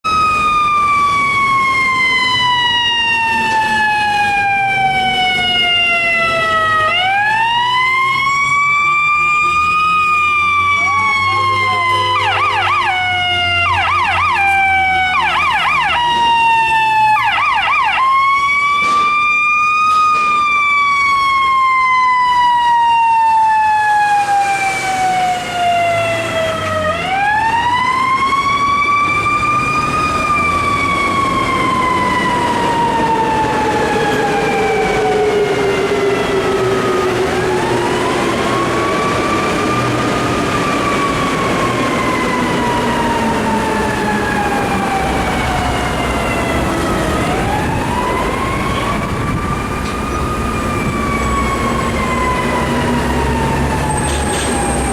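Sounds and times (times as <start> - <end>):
fire engine siren wailing: 0.0 - 54.9
siren yelp bursts: 0.1 - 54.9.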